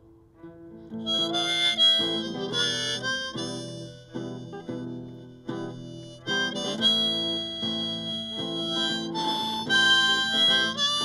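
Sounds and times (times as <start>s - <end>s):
acoustic guitar chords: 0.0s - 11.0s
harmonica melody: 0.9s - 11.0s.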